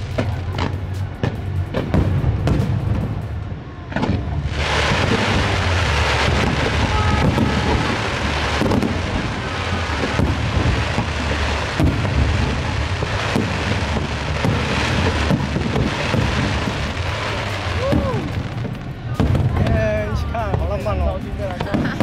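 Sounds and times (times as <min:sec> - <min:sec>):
fireworks crackling and rumbling: 0:00.0 - 0:22.0
heavy firework booms: 0:00.0 - 0:22.0.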